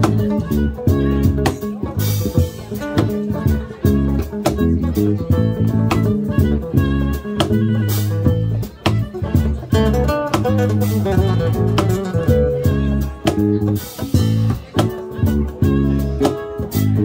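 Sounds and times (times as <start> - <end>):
acoustic-electric guitar lead: 0.0 - 17.0
cajon and cymbal percussion: 0.0 - 17.0
electric bass line: 0.0 - 17.0.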